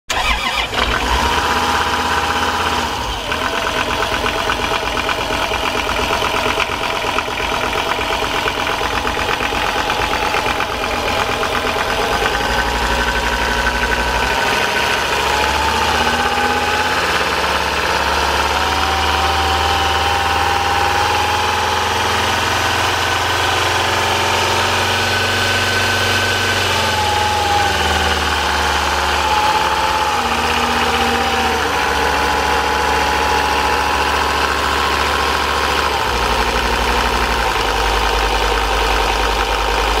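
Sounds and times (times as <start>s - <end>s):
diesel engine idling: 0.1s - 40.0s.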